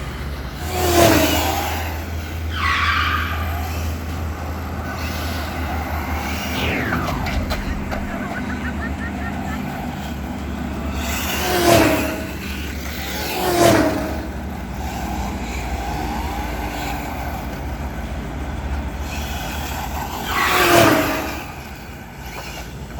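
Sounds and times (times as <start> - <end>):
low rumble of traffic: 0.0 - 22.9
vehicles passing close by: 0.0 - 22.9.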